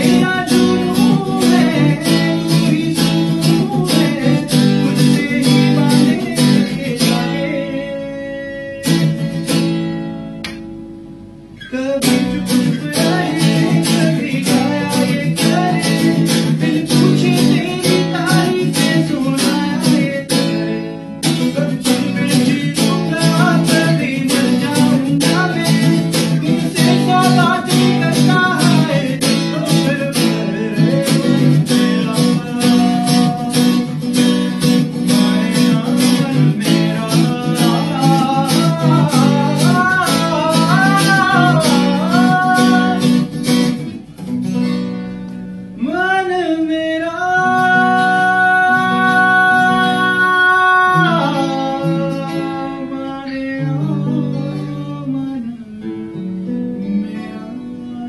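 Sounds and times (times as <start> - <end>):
man singing: 0.0 - 9.7, 11.6 - 43.8, 45.8 - 58.0
acoustic guitar strumming: 0.0 - 58.0.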